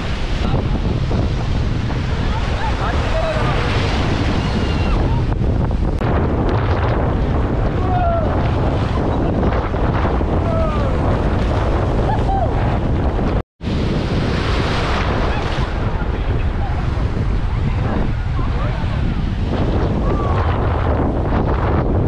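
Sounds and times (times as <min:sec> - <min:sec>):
surf breaking and washing: 0:00.0 - 0:22.0
wind buffeting microphone: 0:00.0 - 0:22.0.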